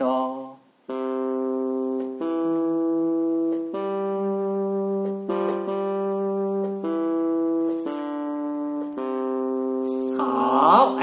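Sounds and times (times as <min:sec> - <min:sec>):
electronic keyboard notes: 0:00.8 - 0:11.0.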